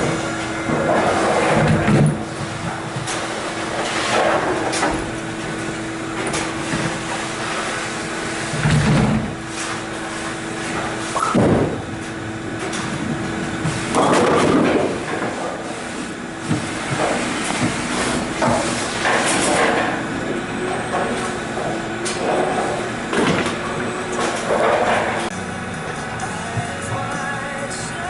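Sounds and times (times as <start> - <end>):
bowling ball rolling: 0.0 - 27.6
alley machinery hum: 0.0 - 28.0.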